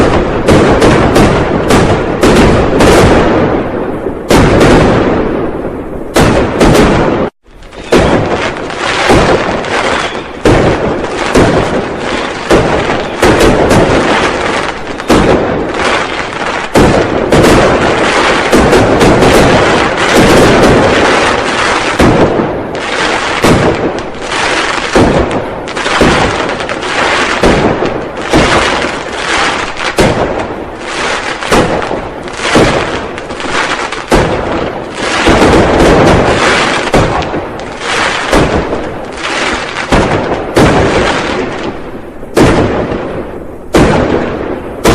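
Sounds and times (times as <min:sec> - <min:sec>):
firecrackers banging: 0:00.0 - 0:44.9.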